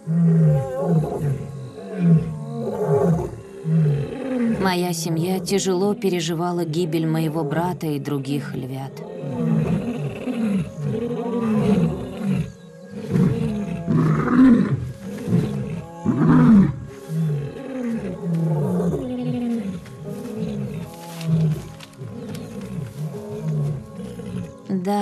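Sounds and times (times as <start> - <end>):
lions roaring: 0.0 - 5.7, 8.9 - 24.7.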